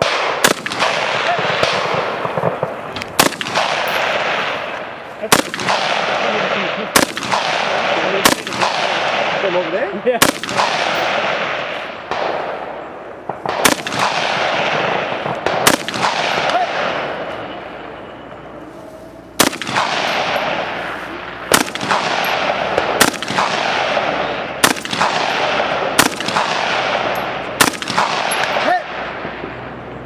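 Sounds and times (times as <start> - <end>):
rifle shots with rolling echo: 0.0 - 30.0.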